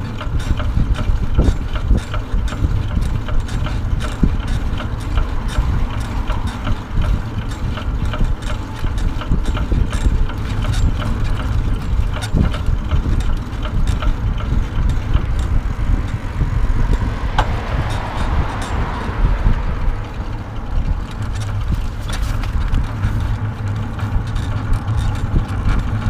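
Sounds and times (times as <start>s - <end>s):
wheels rolling on asphalt: 0.0s - 26.0s
wind buffeting microphone: 0.0s - 26.0s.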